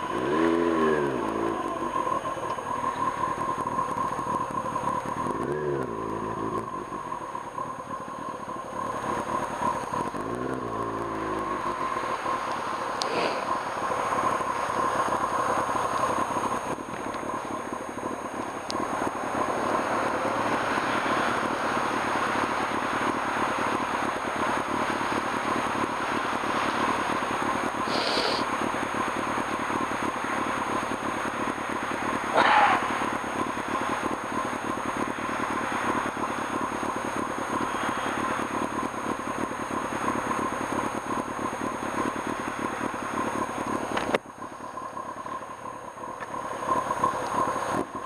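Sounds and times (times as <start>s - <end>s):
motorcycle engine revving: 0.0s - 48.0s
wind and road noise: 0.0s - 48.0s.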